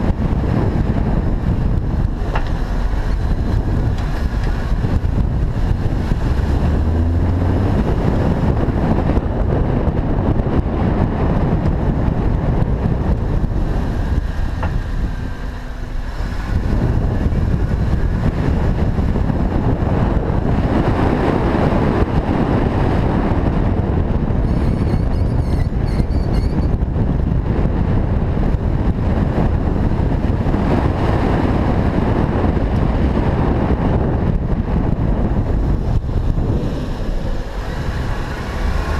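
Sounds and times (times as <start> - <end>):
car road and wind noise: 0.0 - 38.9.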